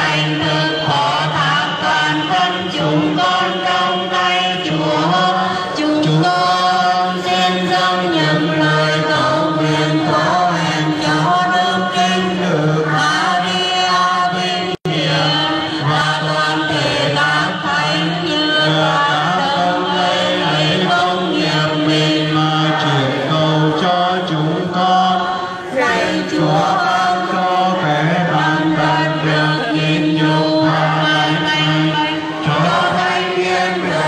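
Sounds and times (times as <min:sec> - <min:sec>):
crowd singing a hymn: 0:00.0 - 0:34.0.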